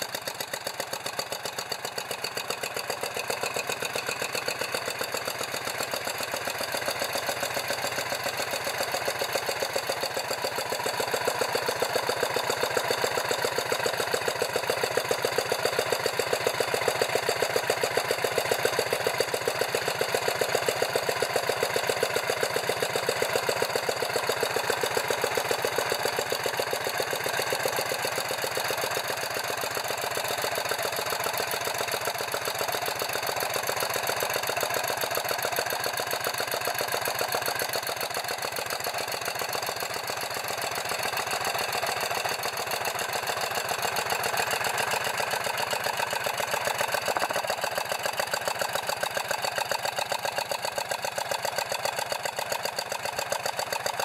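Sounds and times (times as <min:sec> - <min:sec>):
air-cooled engine running: 0:00.0 - 0:54.0.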